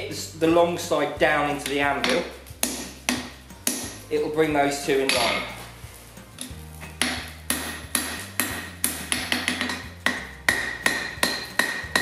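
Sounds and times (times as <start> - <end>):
hammer striking steel on anvil: 1.5 - 5.6, 6.4 - 12.0.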